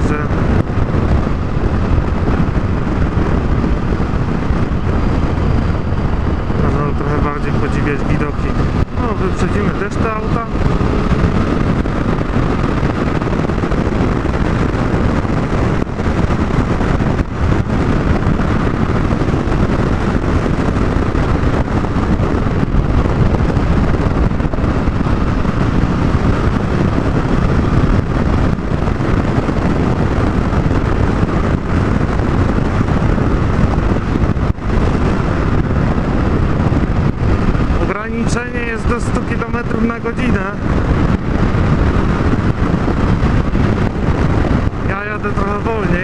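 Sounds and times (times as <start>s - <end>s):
motorcycle engine running: 0.0s - 46.0s
wind rushing over microphone: 0.0s - 46.0s.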